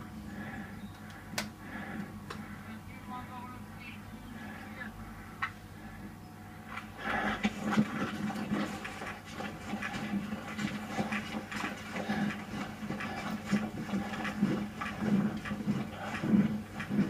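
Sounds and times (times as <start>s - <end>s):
heavy panting breaths: 0.1s - 2.9s, 4.2s - 17.0s.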